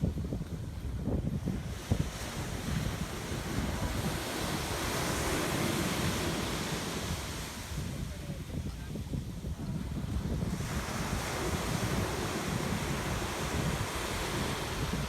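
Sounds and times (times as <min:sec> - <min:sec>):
waves breaking on a beach: 0:00.0 - 0:15.0
wind buffeting microphone: 0:00.0 - 0:15.0.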